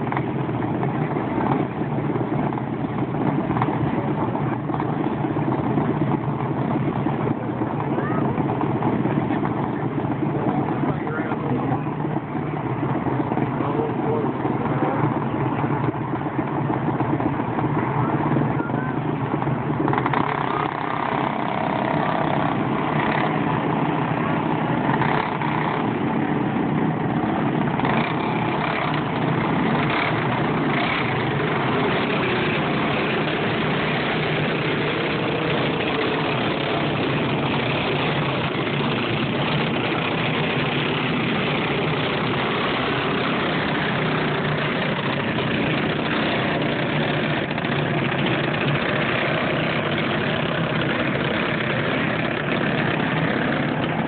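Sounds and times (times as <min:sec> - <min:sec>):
go-kart engines buzzing: 0:00.0 - 0:54.0.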